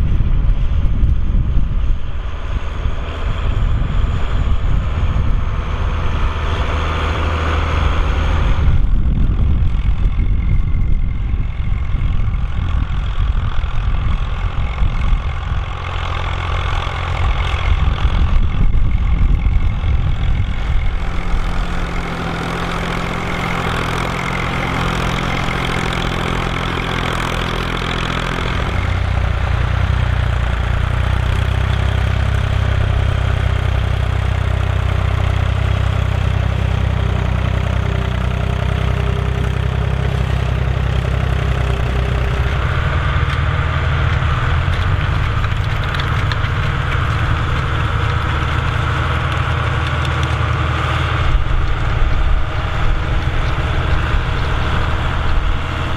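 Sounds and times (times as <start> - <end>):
diesel tractor engines under load: 0.0 - 55.9.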